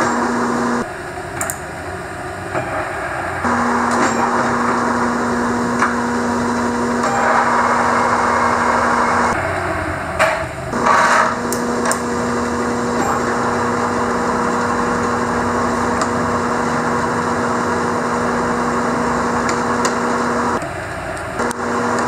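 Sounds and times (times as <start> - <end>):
drill press humming: 0.0 - 22.0.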